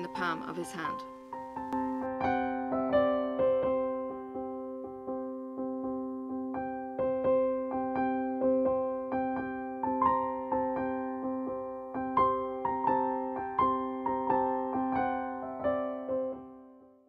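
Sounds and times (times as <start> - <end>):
slow piano-like keyboard tune: 0.0 - 17.0.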